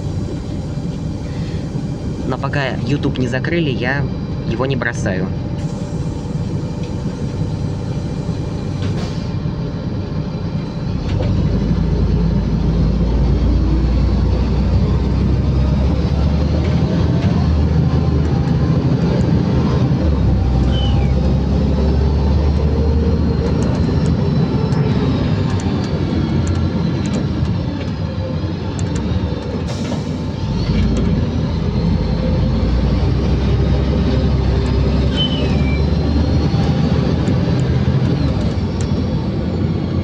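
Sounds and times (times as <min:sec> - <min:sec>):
bus engine rumble: 0:00.0 - 0:40.0
road noise: 0:00.0 - 0:40.0.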